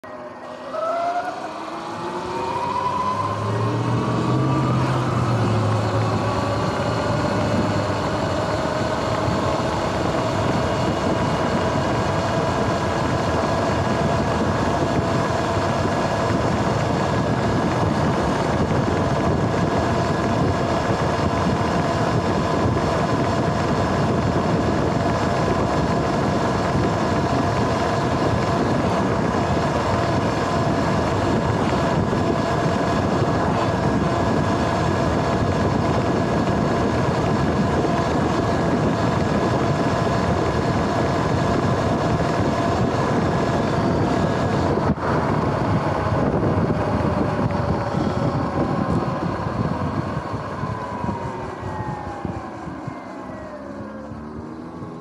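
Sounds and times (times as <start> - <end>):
electric motorbike motor whining: 0.0 - 55.0
road and wind noise: 0.0 - 55.0.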